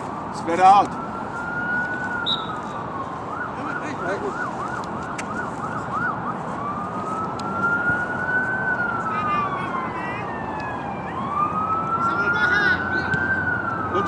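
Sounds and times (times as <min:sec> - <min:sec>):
emergency vehicle siren: 0:00.0 - 0:14.0.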